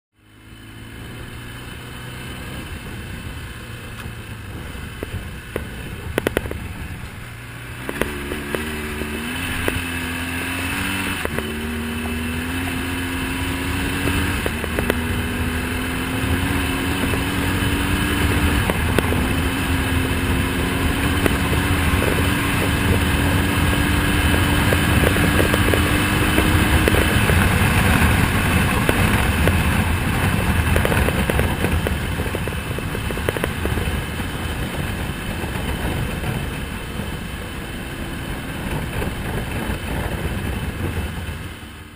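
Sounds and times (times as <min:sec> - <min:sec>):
motorcycle engine accelerating: 0:00.1 - 0:41.9
wind and road noise: 0:00.1 - 0:41.9.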